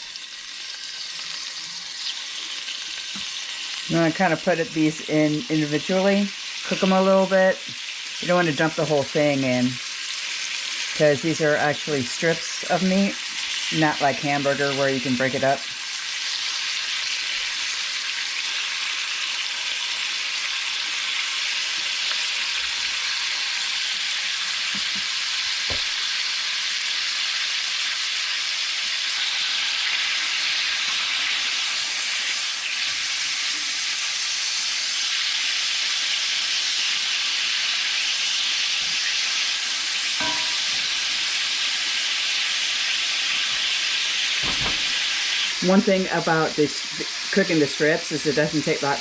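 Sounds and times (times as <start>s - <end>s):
steak sizzling in a pan: 0.0s - 49.0s.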